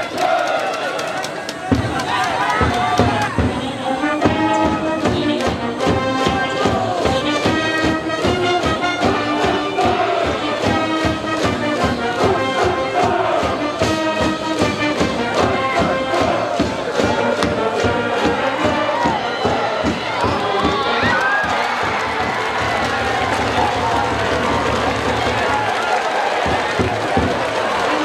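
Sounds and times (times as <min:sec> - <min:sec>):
crowd chanting and shouting: 0:00.0 - 0:28.0
steady drum beat: 0:00.1 - 0:28.0
brass band playing: 0:01.6 - 0:28.0.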